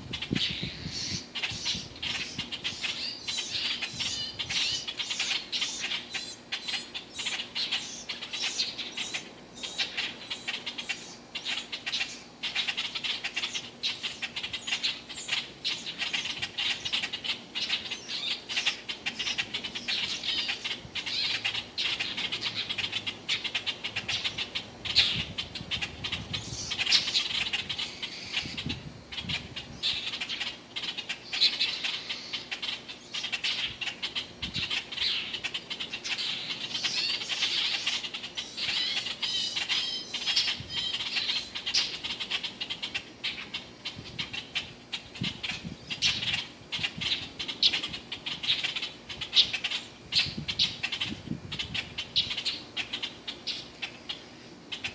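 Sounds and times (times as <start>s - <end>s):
baby bird cheeping: 0.0s - 54.9s.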